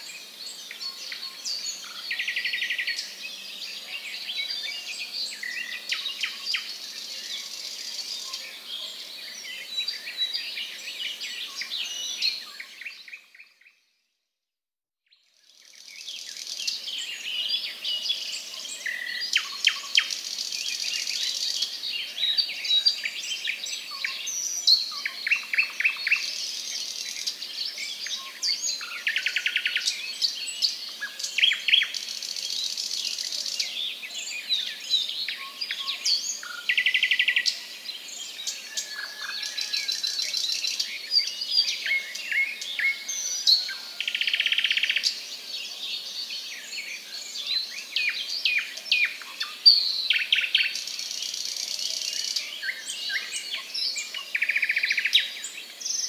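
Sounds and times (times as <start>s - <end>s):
small birds chirping: 0.0s - 14.0s, 15.2s - 56.0s.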